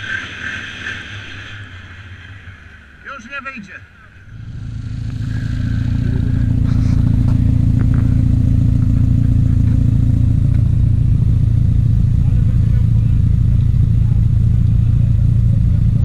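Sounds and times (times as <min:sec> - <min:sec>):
atv engine droning: 0:00.0 - 0:16.0.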